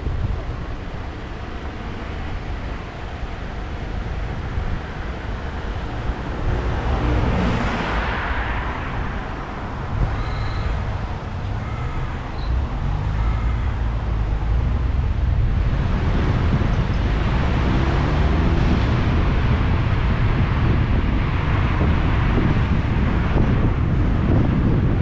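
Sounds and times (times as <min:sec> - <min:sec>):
car engine and road rumble: 0:00.0 - 0:25.0
wind on microphone: 0:03.8 - 0:25.0.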